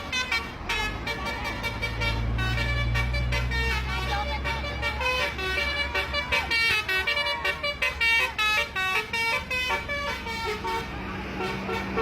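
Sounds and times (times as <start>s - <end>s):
bus engine rumble: 0.0s - 12.0s
musical air horn tune: 0.0s - 12.0s.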